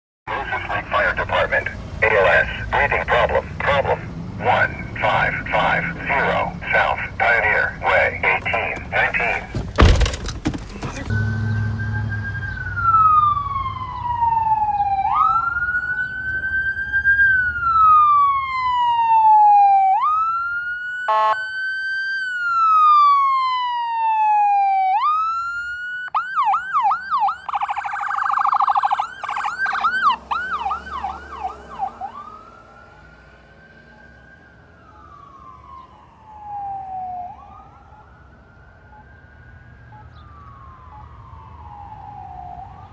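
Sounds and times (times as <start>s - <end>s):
ambulance siren: 0.3s - 11.4s, 12.3s - 42.9s.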